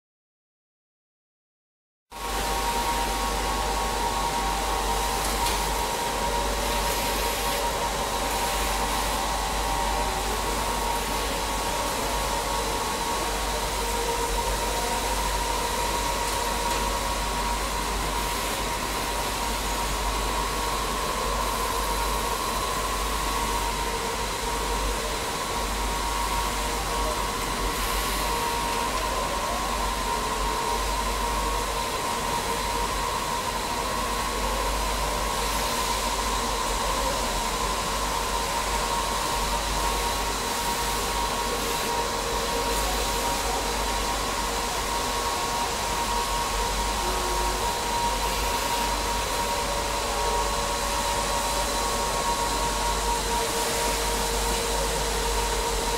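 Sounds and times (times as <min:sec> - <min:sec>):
machine whirring and humming: 0:02.1 - 0:55.9.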